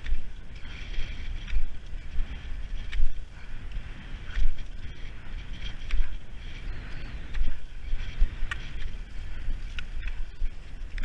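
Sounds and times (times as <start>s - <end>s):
ski pole tips clicking: 0.0s - 11.0s
skis scraping on packed snow: 0.0s - 11.0s
wind rumble on microphone: 0.0s - 11.0s.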